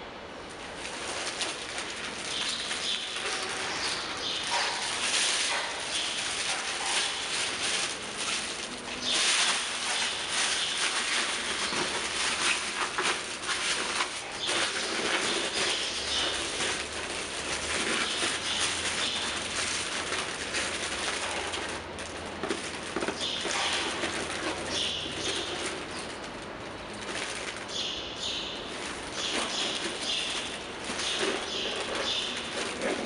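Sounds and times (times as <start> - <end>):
plastic bags crinkling: 0.3 - 33.0.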